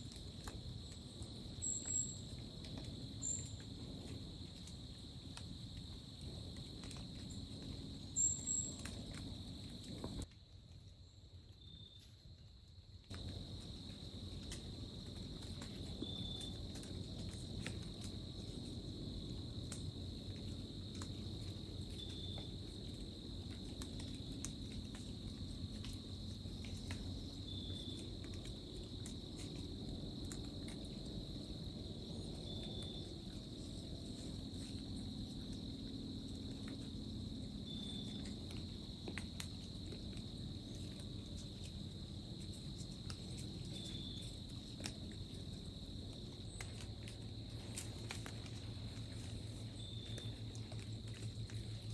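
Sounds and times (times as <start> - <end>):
insects trilling: 0.0 - 10.3, 11.0 - 51.9.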